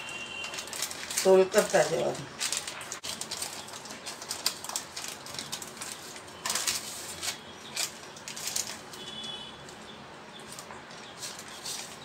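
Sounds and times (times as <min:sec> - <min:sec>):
plastic sheet crinkling: 0:00.0 - 0:12.0.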